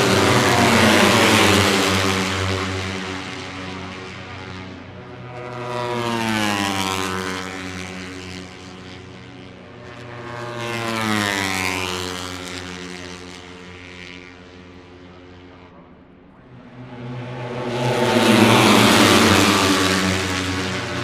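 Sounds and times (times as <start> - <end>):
drone of motorcycles: 0.0 - 21.0
race motorcycles passing at speed: 0.0 - 21.0.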